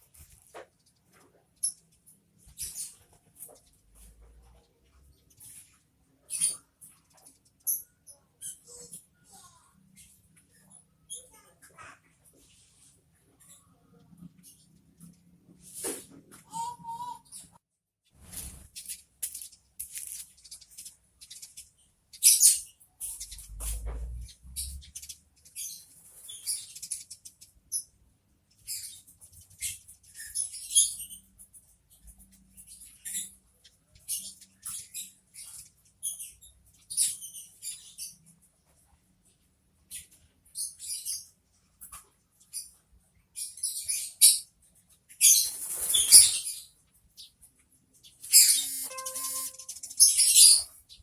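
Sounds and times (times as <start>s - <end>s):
sparrows chirping: 0.0s - 15.8s, 18.2s - 51.0s.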